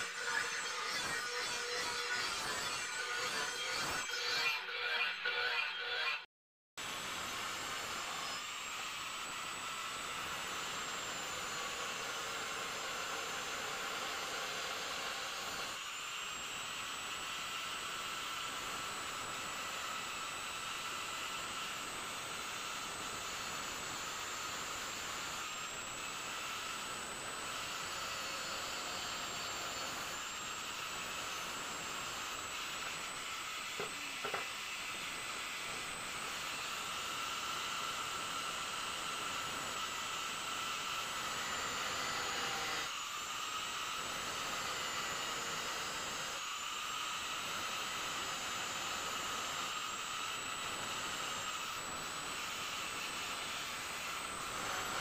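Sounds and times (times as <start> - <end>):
angle grinder grinding steel: 0.0 - 55.0.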